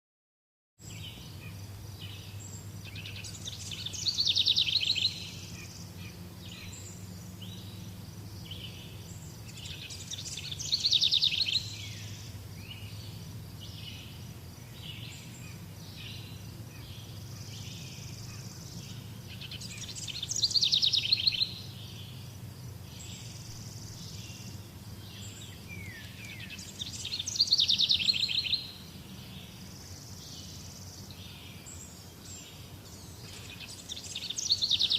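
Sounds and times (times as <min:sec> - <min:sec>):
birds chirping softly: 0:00.8 - 0:34.9
steady low hum: 0:00.8 - 0:34.9.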